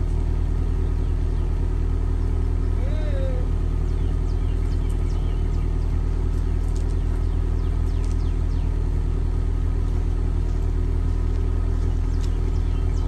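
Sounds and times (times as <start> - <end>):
car engine running steadily: 0.0 - 13.0.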